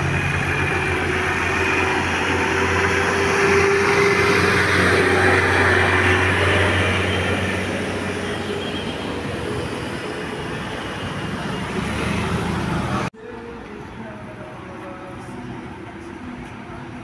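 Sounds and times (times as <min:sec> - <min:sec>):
bus engine and road noise: 0:00.0 - 0:17.0
quieter traffic noise: 0:00.0 - 0:17.0.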